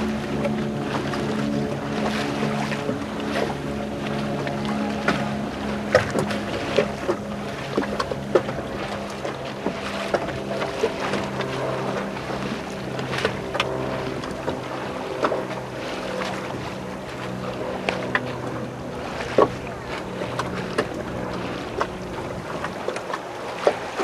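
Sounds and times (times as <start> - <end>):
steady low hum: 0.0 - 24.0
waves slapping boat hull: 0.0 - 24.0.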